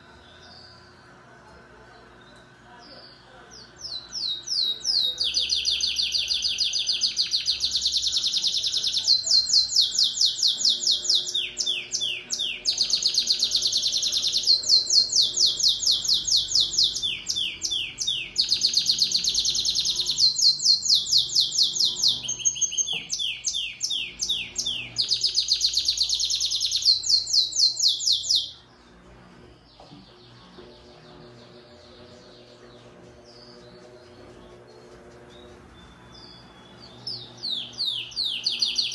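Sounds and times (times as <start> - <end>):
canary singing rolling trills: 2.0 - 38.9.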